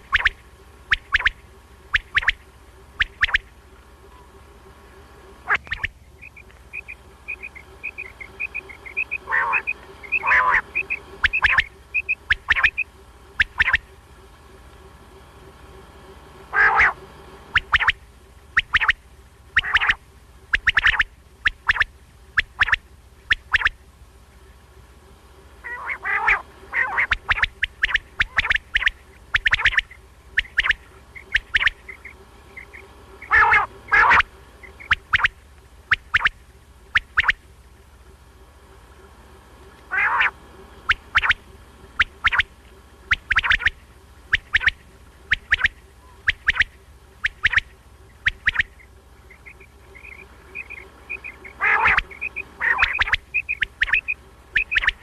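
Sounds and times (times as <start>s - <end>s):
quail calling: 0.0s - 14.1s, 16.2s - 24.6s, 25.6s - 55.0s
rasping bird calls: 0.0s - 55.0s.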